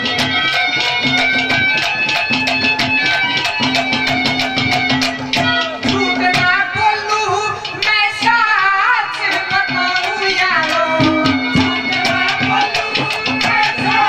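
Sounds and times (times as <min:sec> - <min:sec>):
hand drum rhythm: 0:00.0 - 0:14.0.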